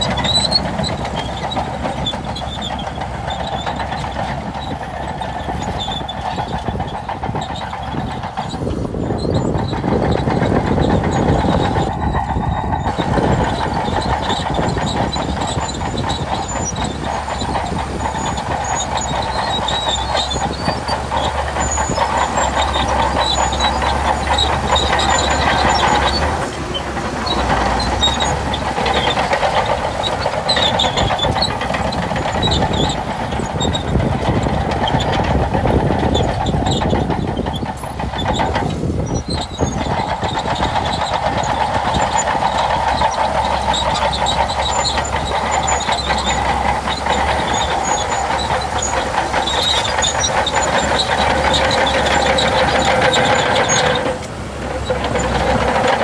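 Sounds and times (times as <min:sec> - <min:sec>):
bulldozer engine under load: 0:00.0 - 0:56.0
steel tracks clattering: 0:00.0 - 0:56.0.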